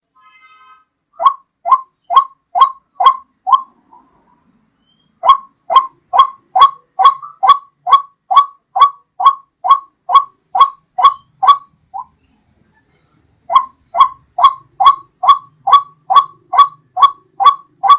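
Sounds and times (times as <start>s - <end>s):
waterhen calling: 1.2s - 4.2s, 4.9s - 12.2s, 13.5s - 17.9s.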